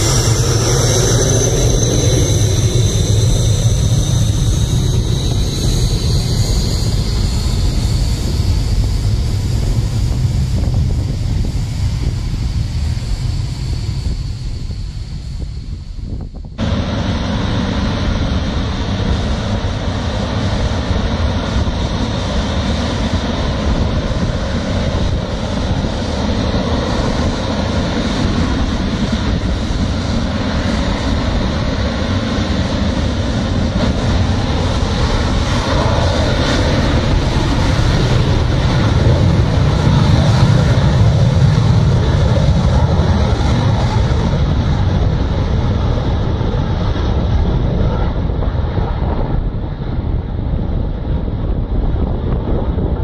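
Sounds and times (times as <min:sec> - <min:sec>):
jet engine running: 0:00.0 - 0:53.0.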